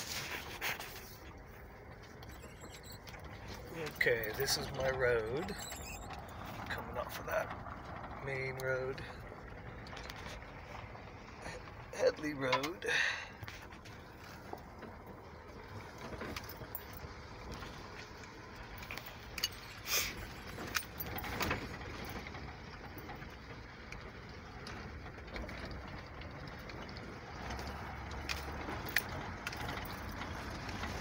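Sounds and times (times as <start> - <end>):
tyre and road noise: 0.0 - 31.0
cab rattling clicks and knocks: 0.3 - 31.0.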